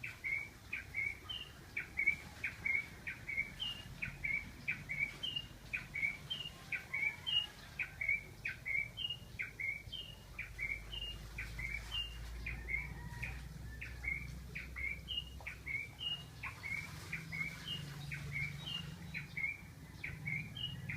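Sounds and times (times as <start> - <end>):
bird calling: 0.0 - 20.9.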